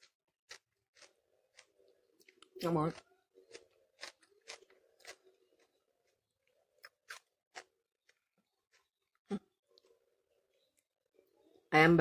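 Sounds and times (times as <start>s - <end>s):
person chewing cucumber: 0.0s - 10.0s.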